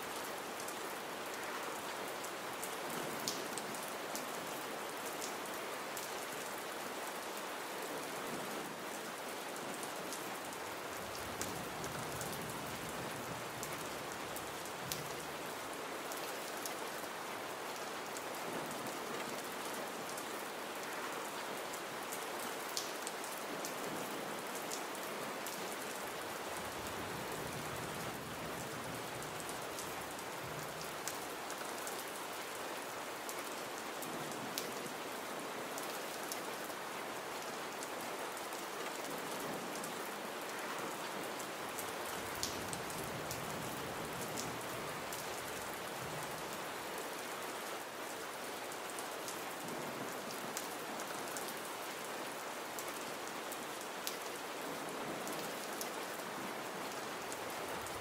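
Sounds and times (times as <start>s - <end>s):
gentle rain hiss: 0.0s - 58.0s.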